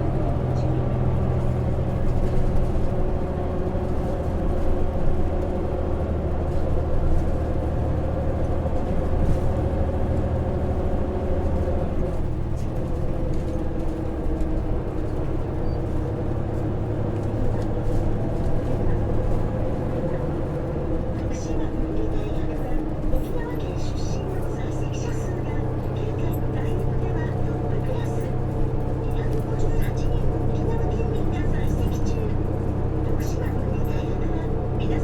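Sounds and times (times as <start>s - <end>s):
bus diesel engine droning: 0.0s - 35.0s
road noise: 0.0s - 35.0s.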